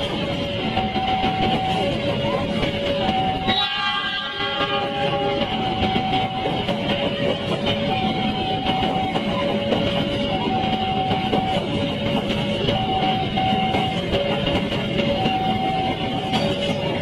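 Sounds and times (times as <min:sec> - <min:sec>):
train wheels rumbling on rails: 0:00.0 - 0:17.0
two-tone crossing alarm: 0:00.0 - 0:17.0.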